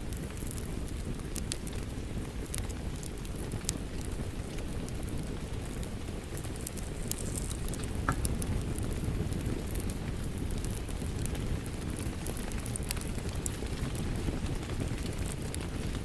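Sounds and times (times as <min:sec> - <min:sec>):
steady rain: 0:00.0 - 0:16.0
wood fire crackling and popping: 0:00.0 - 0:16.0.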